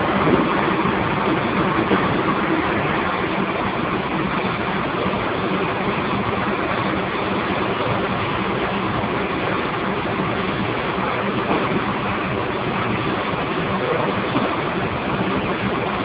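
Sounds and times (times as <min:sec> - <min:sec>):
steam boiler plant running: 0:00.0 - 0:16.0.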